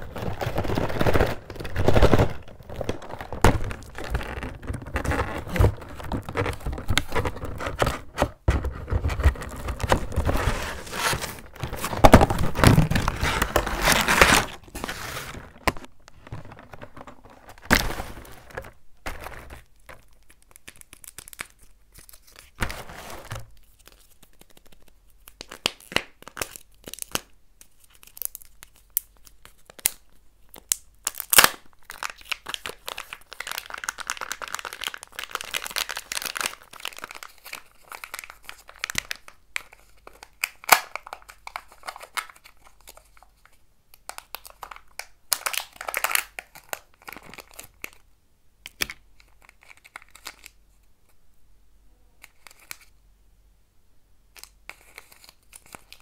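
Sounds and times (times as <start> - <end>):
foil wrapper crinkling and tearing: 0.0 - 8.1, 9.2 - 22.7, 23.5 - 48.0, 49.2 - 50.6, 54.4 - 56.0.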